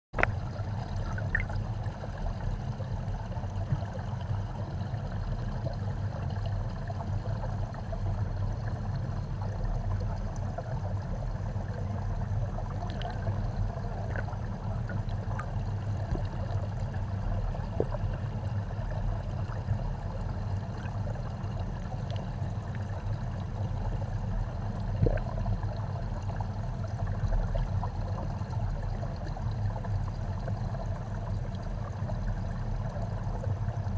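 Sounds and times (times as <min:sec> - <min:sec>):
underwater aeration bubbling: 0:00.2 - 0:33.9.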